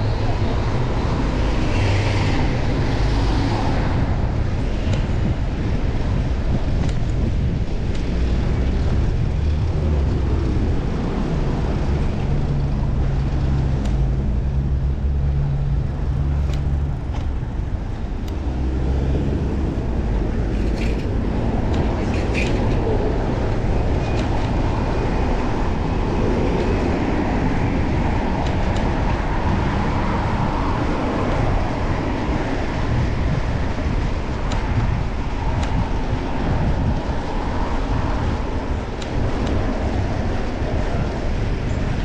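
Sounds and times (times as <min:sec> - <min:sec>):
passing traffic: 0:00.0 - 0:42.0
wind and road noise: 0:00.0 - 0:42.0.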